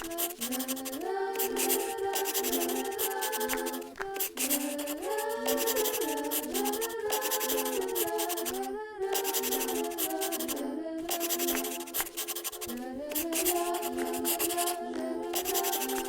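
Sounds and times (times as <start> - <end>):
light background music: 0.0 - 16.0
scribbling on paper: 0.0 - 16.0.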